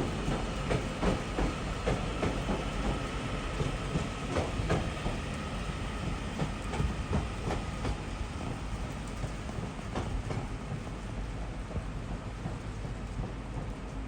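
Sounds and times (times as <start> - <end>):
train wheels clicking over rail joints: 0.0 - 13.8
train low rumble: 0.0 - 14.0.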